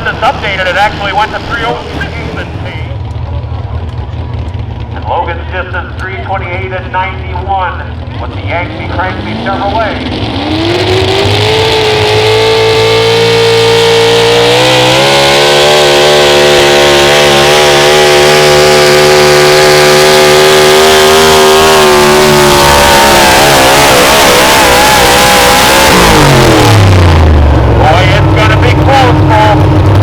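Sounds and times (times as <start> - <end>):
pulling vehicle engine at full throttle: 0.0 - 30.0.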